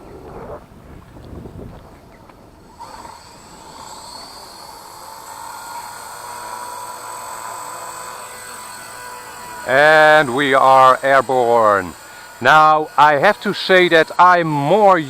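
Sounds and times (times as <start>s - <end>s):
model helicopter motor and rotor whine: 2.5s - 15.0s.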